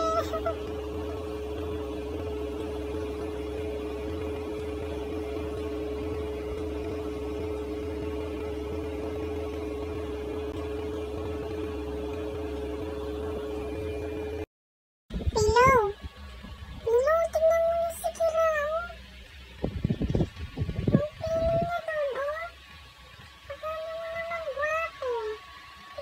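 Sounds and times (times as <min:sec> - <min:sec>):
steady electrical hum: 0:00.0 - 0:14.4, 0:15.1 - 0:26.0.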